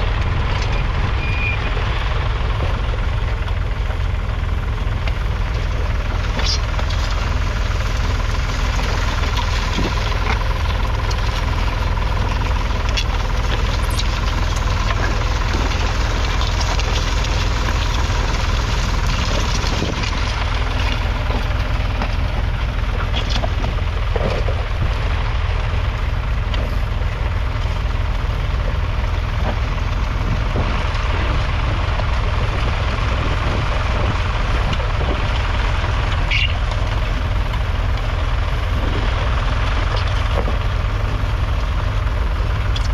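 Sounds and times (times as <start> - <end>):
diesel engine knocking: 0.0 - 42.9.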